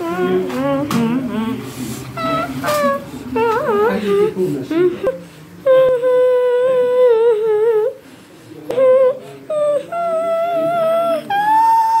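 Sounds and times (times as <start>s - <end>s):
high voice humming a tune: 0.0s - 8.0s, 8.7s - 12.0s.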